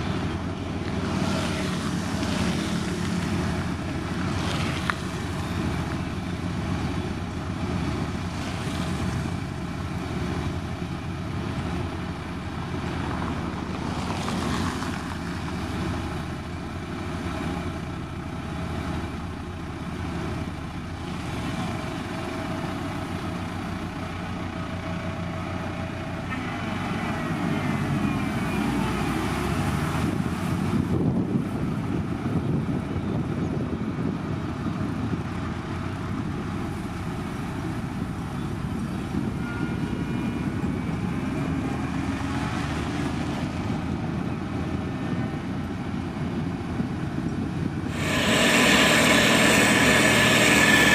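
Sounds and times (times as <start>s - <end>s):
motor grader diesel engine running: 0.0s - 50.9s.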